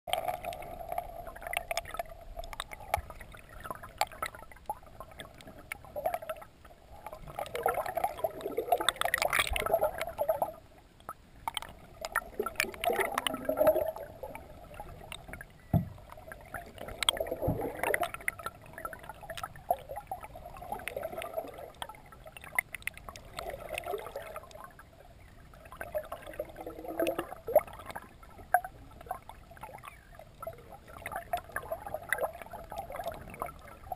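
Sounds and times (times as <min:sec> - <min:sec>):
underwater gurgling and sloshing: 0:00.1 - 0:33.9.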